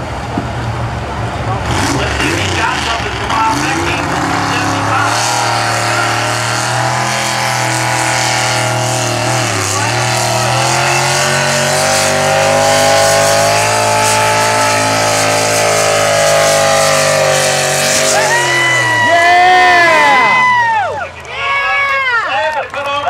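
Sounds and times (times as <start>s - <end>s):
truck engine at high revs: 0.0s - 21.3s.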